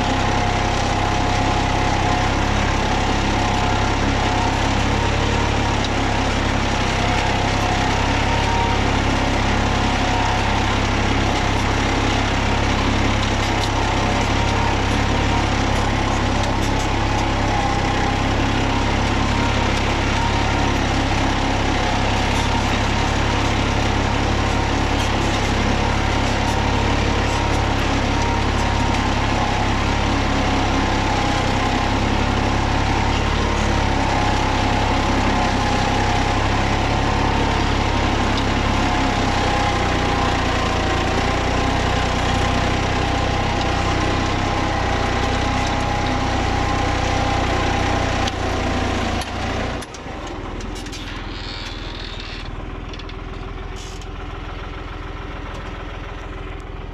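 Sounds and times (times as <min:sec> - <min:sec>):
tractor diesel engine working: 0:00.0 - 0:56.9.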